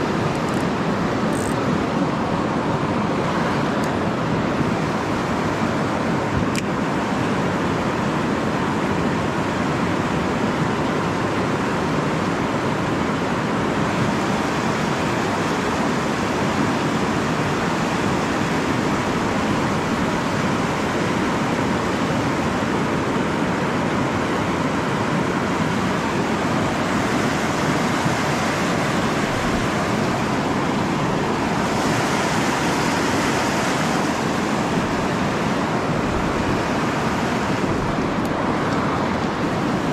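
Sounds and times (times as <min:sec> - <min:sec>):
river water pouring over weir: 0:00.0 - 0:39.9.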